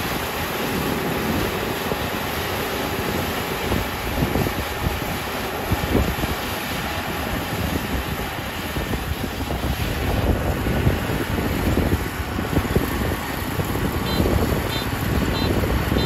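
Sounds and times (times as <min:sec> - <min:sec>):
combine harvester running: 0:00.0 - 0:16.0
wind buffeting microphone: 0:00.0 - 0:16.0.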